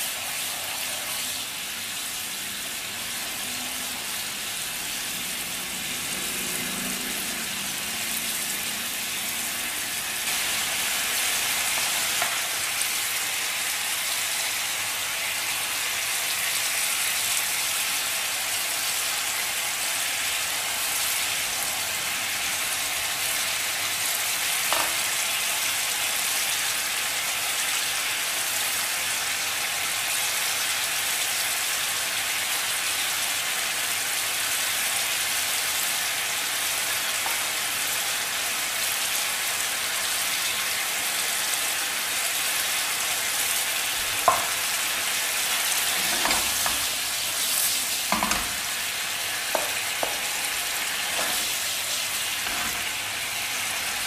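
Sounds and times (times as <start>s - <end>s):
meatballs sizzling in a frying pan: 0.0s - 54.0s.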